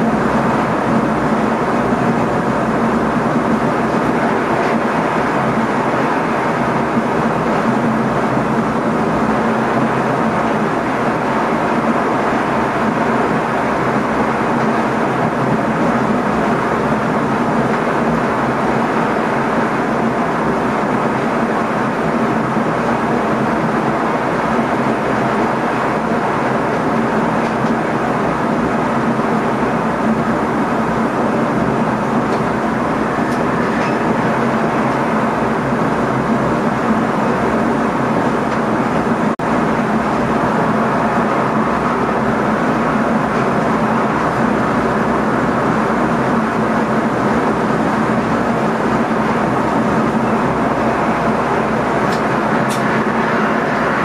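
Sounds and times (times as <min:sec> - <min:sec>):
train cab running noise: 0:00.0 - 0:54.0.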